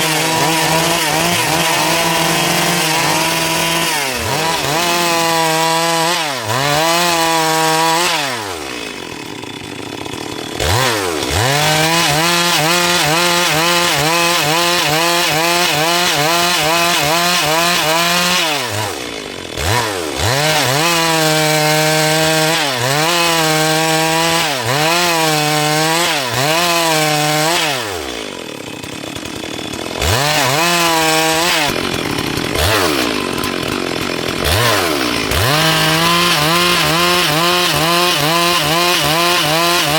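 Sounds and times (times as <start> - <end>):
chainsaw cutting log: 0.0 - 39.9
chainsaw idling and revving: 0.0 - 39.9.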